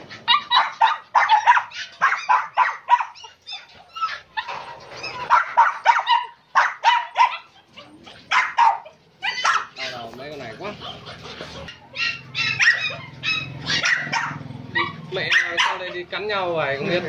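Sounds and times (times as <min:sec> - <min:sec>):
dogs barking: 0:00.0 - 0:10.1, 0:10.7 - 0:16.2.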